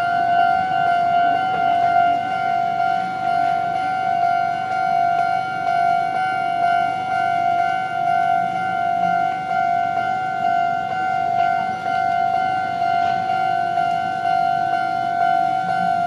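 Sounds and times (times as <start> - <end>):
level crossing alarm ringing: 0.0 - 16.0.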